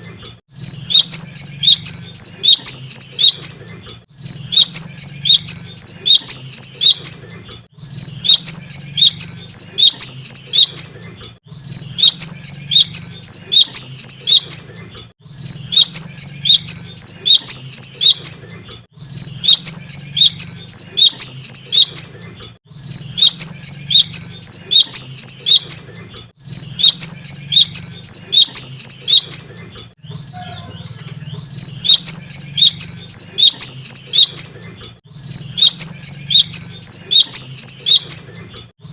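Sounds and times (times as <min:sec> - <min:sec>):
bird singing high chirping notes: 0:00.5 - 0:38.3.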